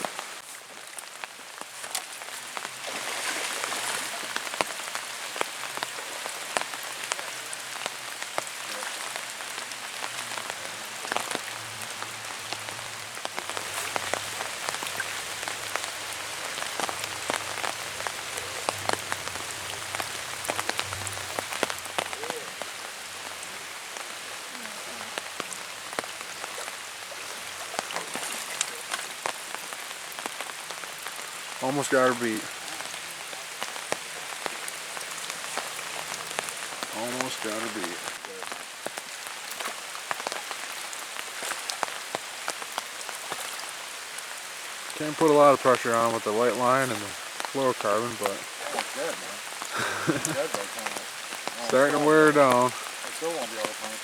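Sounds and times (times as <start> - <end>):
heavy rain falling: 0.0 - 54.0
raindrops tapping: 0.0 - 54.0.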